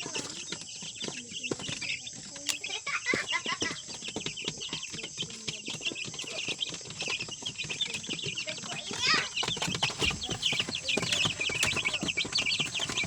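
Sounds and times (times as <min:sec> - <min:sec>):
chickens clucking and calling: 0:00.0 - 0:13.0.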